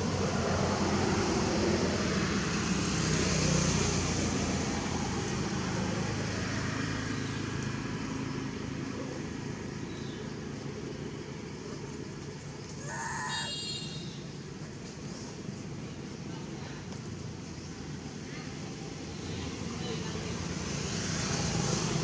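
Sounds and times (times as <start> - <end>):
road noise: 0.0 - 22.0
vehicle engine rumble: 0.0 - 22.0.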